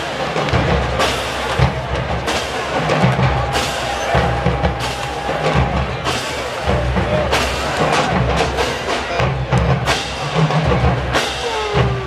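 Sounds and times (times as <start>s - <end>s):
bass drums: 0.0s - 12.0s
snare drums: 0.0s - 12.0s.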